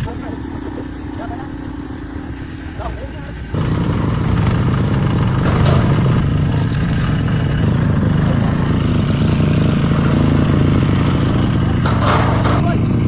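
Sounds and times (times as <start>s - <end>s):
engine droning with light clatter: 0.0s - 13.0s.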